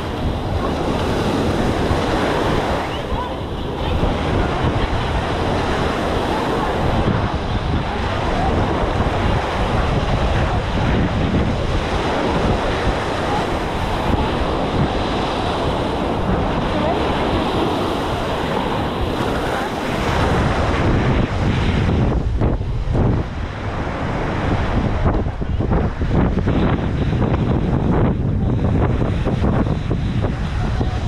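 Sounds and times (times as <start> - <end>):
small waves washing on shore: 0.0 - 31.0
wind buffeting microphone: 0.0 - 31.0.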